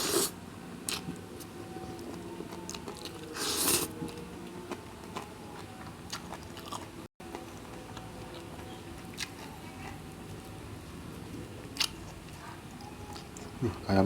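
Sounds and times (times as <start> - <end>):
person chewing food: 1.9 - 13.7.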